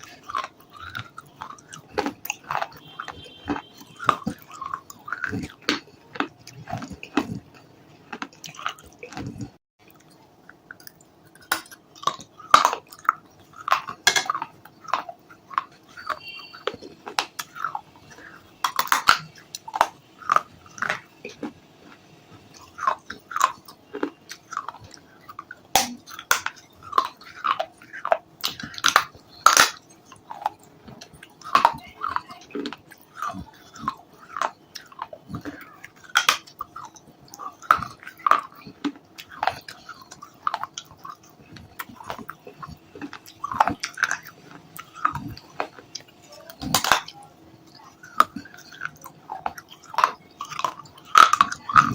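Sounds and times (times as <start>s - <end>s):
crisp chewing crunches: 0.0s - 51.9s.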